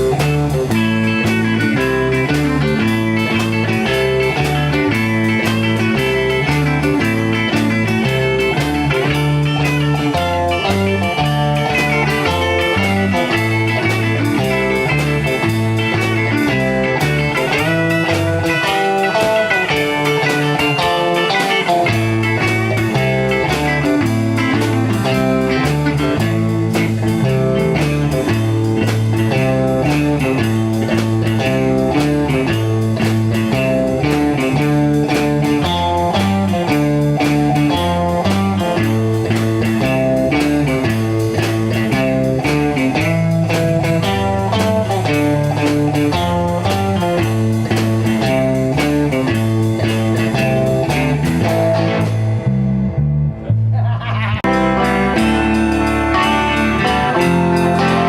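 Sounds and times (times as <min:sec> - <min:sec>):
electric guitar: 0:00.0 - 0:58.0
rhythmic bass line: 0:00.0 - 0:58.0.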